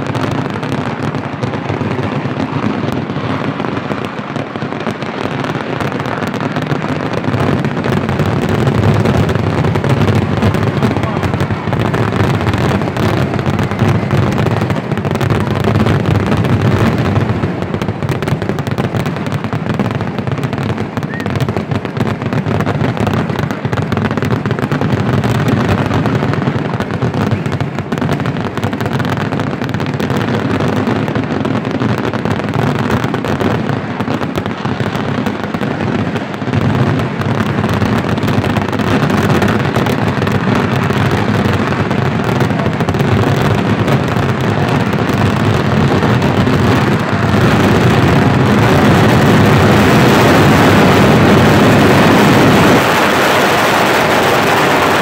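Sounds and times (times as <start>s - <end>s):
firecracker explosions barrage: 0.0s - 55.0s.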